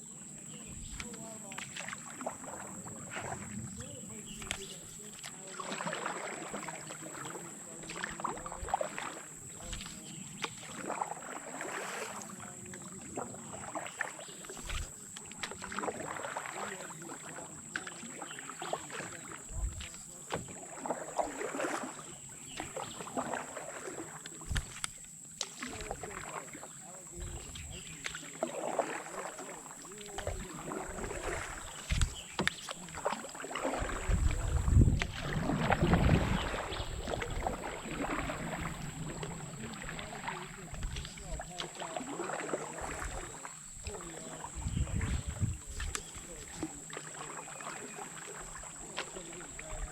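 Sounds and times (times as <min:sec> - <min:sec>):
paddle splashing in water: 0:00.0 - 0:49.9.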